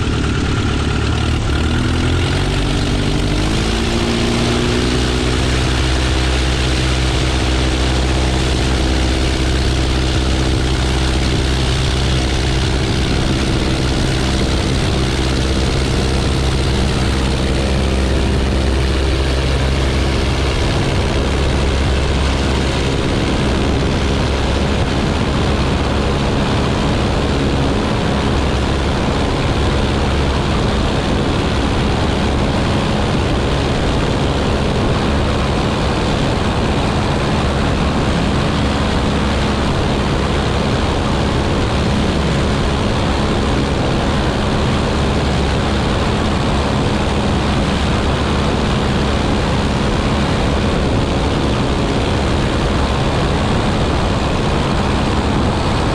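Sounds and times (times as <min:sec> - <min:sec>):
airflow rushing over microphone: 0:00.0 - 0:55.9
propeller plane engine running: 0:00.0 - 0:55.9.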